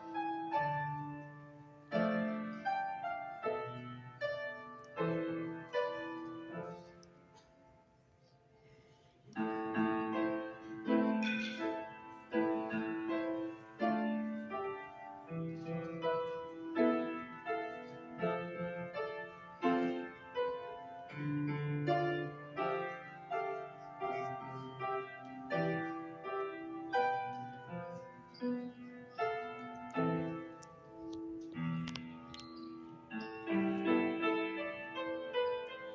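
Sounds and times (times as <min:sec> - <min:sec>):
grand piano playing: 0:00.0 - 0:08.0, 0:09.3 - 0:35.9.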